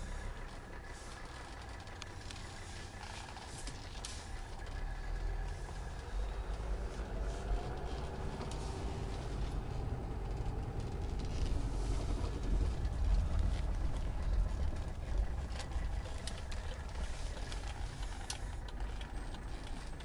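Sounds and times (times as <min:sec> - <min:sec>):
diesel car engine and road noise: 0:00.0 - 0:20.0.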